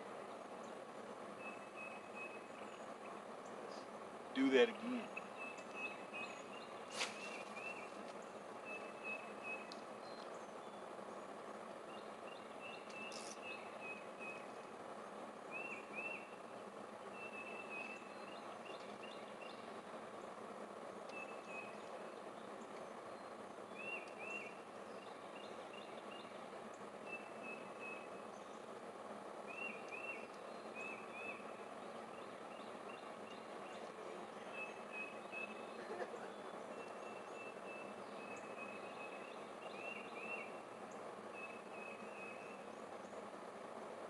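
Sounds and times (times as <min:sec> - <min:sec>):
outdoor background hiss: 0:00.0 - 0:44.0
bird chirping: 0:01.4 - 0:14.7, 0:15.4 - 0:20.4, 0:21.0 - 0:28.7, 0:29.5 - 0:43.2.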